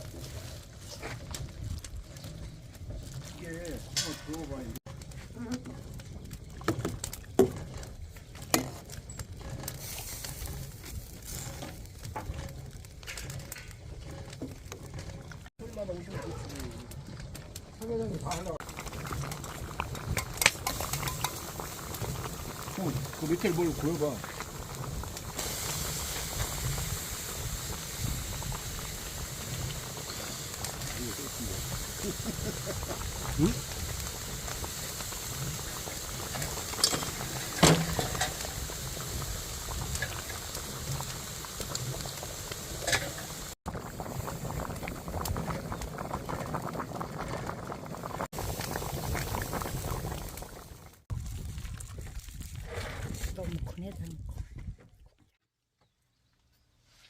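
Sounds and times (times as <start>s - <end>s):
soup boiling and bubbling: 0.0s - 53.9s.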